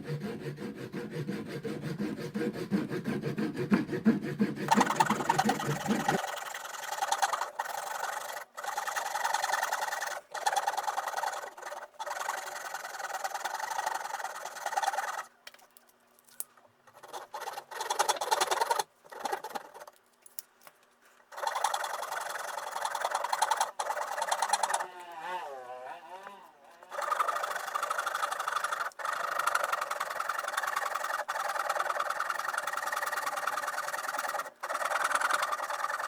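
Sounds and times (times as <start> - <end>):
hand tool rasping wood: 0.0 - 15.3, 17.0 - 20.0, 21.3 - 36.0.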